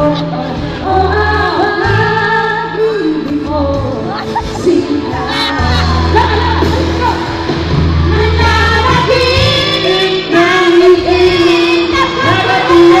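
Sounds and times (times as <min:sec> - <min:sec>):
pop-rock band playing: 0:00.0 - 0:13.0
women singing: 0:00.0 - 0:13.0.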